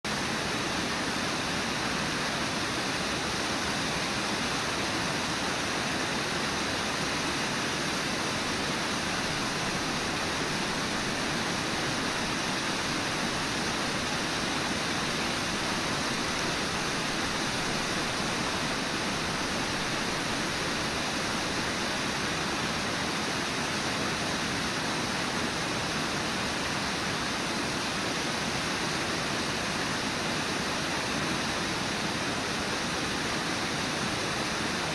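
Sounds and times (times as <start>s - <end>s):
waterfall rushing over rock ledge: 0.1s - 34.9s.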